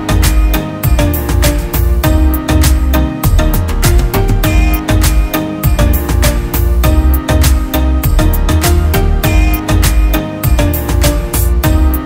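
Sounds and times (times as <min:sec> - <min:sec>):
music with steady beat: 0:00.0 - 0:12.0
strong bass: 0:00.0 - 0:12.0.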